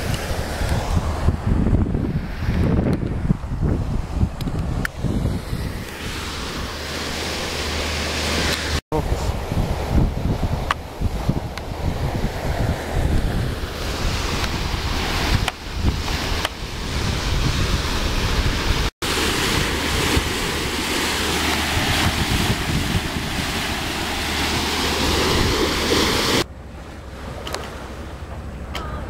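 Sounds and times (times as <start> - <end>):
wind buffeting microphone: 0.0 - 26.5
water rushing along hull: 0.0 - 29.0.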